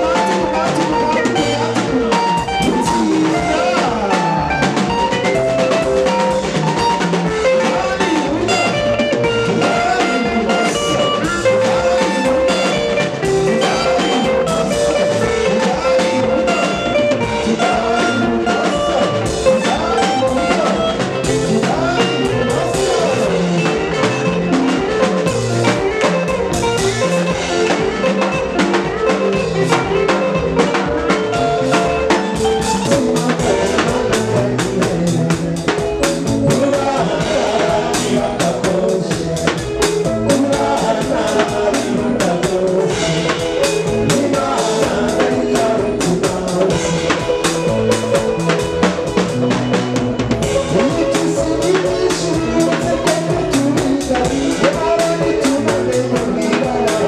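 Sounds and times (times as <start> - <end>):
drum kit beat: 0.0 - 57.0
electric bass: 0.0 - 57.0
keyboard: 0.0 - 57.0
man singing: 0.0 - 57.0.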